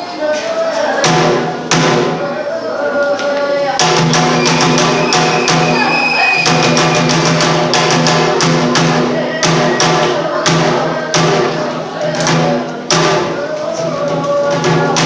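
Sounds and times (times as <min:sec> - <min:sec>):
quick uneven drum strikes: 0:00.4 - 0:02.4, 0:03.8 - 0:15.0.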